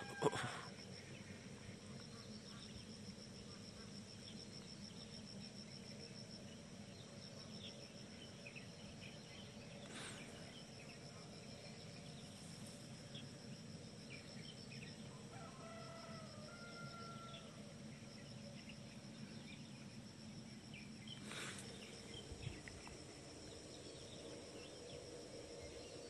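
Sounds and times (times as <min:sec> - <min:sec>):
insects trilling: 0:00.0 - 0:26.0
low background hum: 0:00.0 - 0:26.0.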